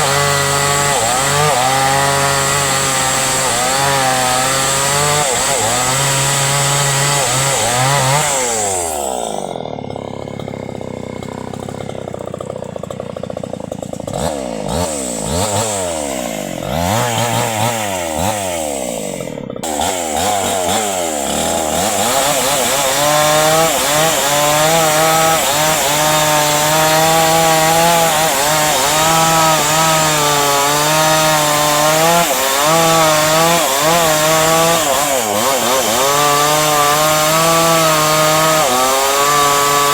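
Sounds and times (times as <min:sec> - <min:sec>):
chainsaw cutting tree trunk: 0:00.0 - 0:39.9.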